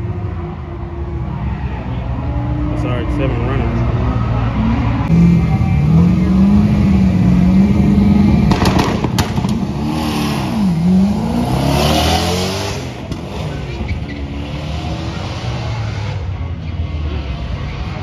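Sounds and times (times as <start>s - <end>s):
car engine revving: 0.0s - 18.0s
car accelerating away: 1.3s - 18.0s.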